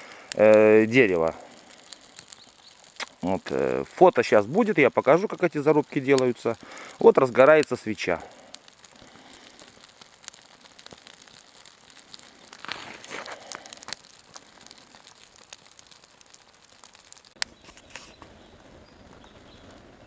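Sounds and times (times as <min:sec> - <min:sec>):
sharp pop of burning wood: 0:00.0 - 0:20.0
wood fire crackling: 0:00.0 - 0:20.0.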